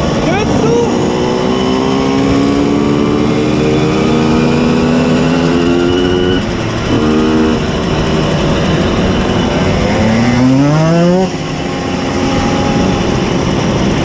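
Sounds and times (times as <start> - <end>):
two-stroke moped engine at high revs: 0.0 - 14.0.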